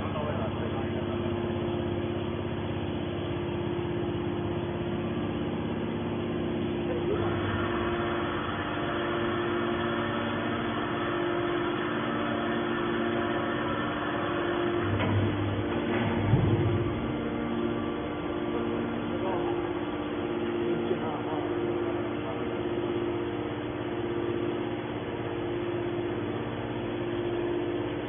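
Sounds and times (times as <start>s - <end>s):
hydraulic pump motor humming: 0.0s - 28.0s.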